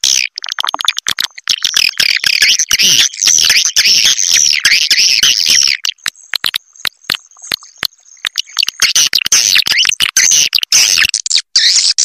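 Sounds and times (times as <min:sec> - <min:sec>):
scattered bird clicks: 0:00.0 - 0:11.3
birds chirping rapidly: 0:01.2 - 0:12.0.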